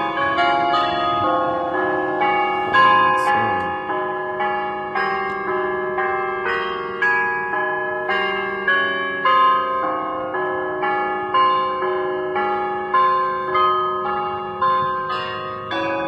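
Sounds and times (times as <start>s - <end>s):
bells struck: 0.0s - 16.0s.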